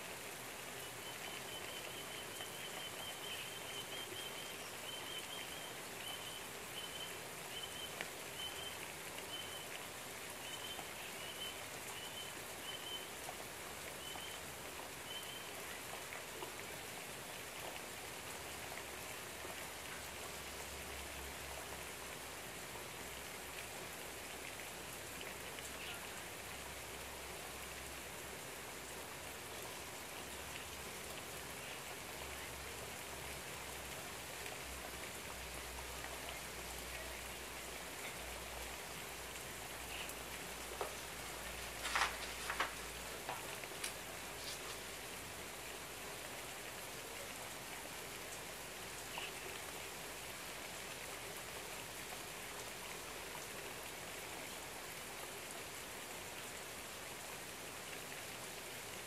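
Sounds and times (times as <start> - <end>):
rain patter: 0.0 - 59.0.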